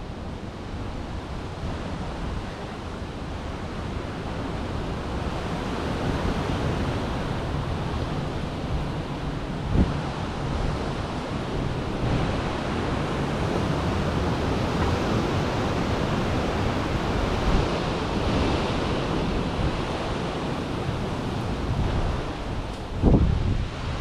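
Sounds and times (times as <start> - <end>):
gusty wind through a tree: 0.0 - 24.0
wind buffeting microphone: 0.0 - 24.0.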